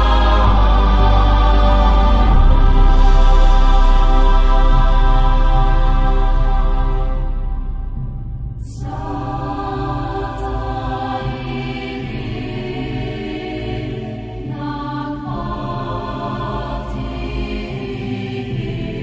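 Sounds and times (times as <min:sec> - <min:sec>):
low drone: 0:00.0 - 0:19.0
solemn music with held chords: 0:00.0 - 0:19.0.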